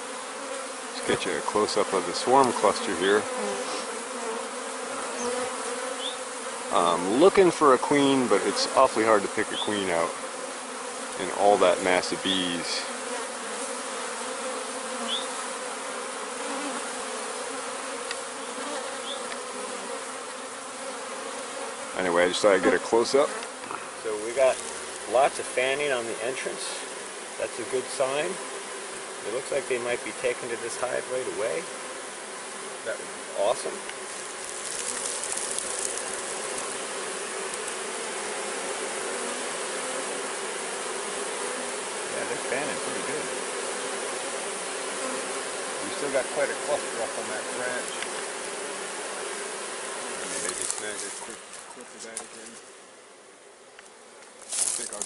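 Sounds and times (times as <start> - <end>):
honeybee swarm buzzing: 0.0 - 55.0.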